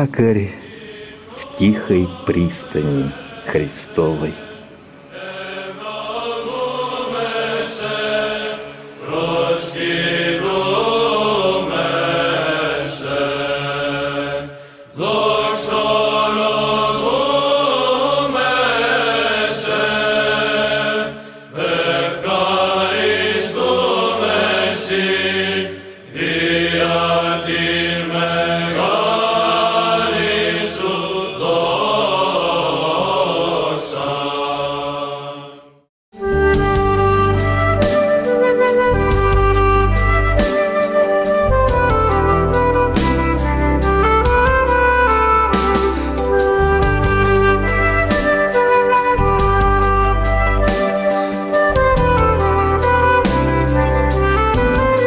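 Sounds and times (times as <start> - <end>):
slow chanted melody: 0.0 - 55.0.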